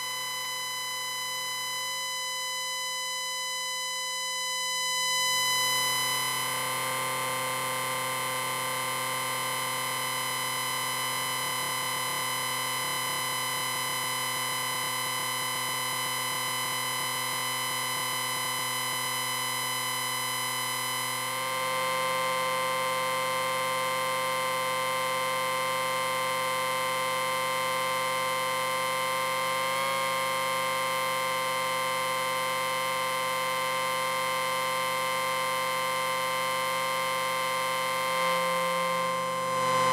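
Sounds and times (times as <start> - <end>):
electronic beeping whine from amplifier: 0.0 - 39.9.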